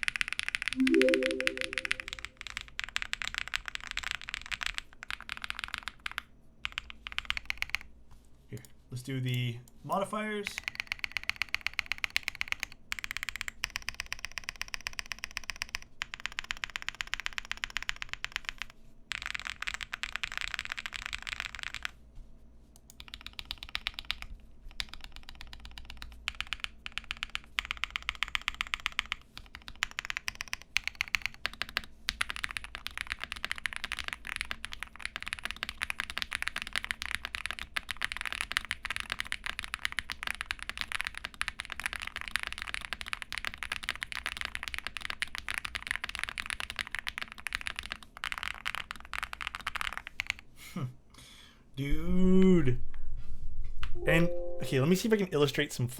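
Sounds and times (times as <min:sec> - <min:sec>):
fast mechanical keyboard typing: 0:00.0 - 0:07.9, 0:10.5 - 0:22.0, 0:22.9 - 0:50.4.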